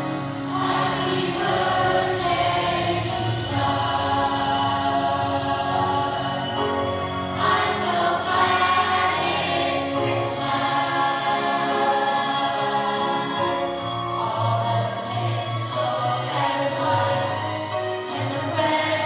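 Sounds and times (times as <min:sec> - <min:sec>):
choir singing: 0:00.0 - 0:19.0
instrumental accompaniment: 0:00.0 - 0:19.0.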